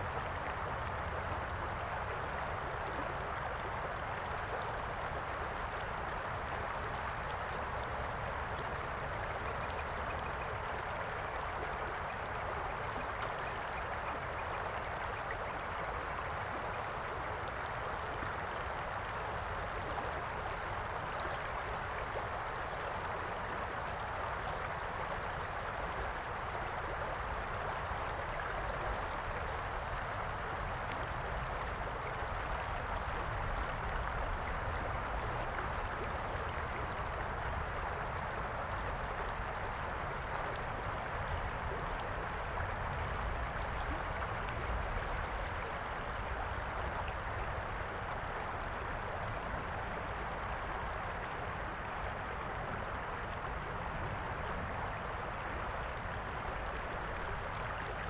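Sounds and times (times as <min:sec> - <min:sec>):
river water running over stones: 0:00.0 - 0:58.0.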